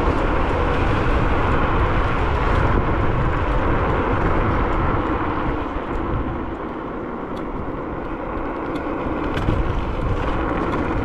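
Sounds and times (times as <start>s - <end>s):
tyres rolling on asphalt: 0.0s - 11.0s
wind rushing over microphone: 0.0s - 11.0s.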